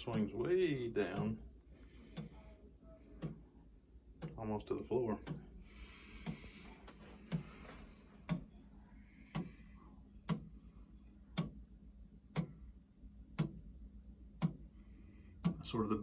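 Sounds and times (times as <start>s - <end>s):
pendulum clock ticking: 0.0s - 16.0s.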